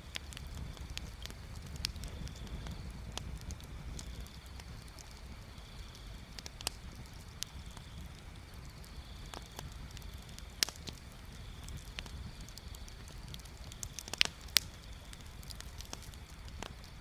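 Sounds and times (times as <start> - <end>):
bonfire crackling and popping: 0.0 - 17.0
low steady rumble: 0.0 - 17.0.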